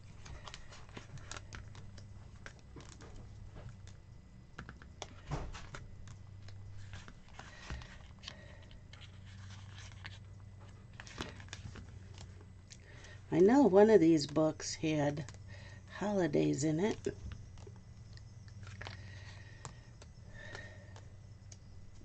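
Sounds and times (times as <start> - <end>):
book pages rustling: 0.0 - 15.8, 16.9 - 22.0
low steady hum: 0.0 - 22.0.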